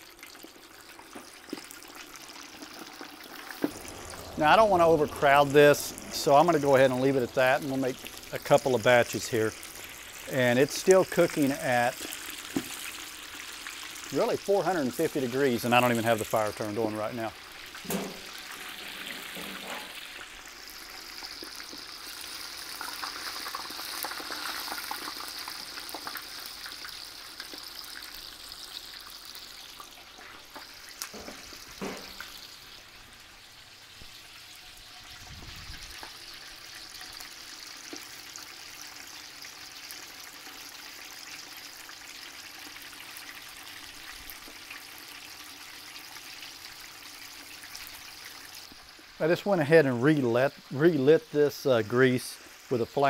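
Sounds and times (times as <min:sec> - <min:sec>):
oil bubbling and sizzling: 0:00.0 - 0:53.0.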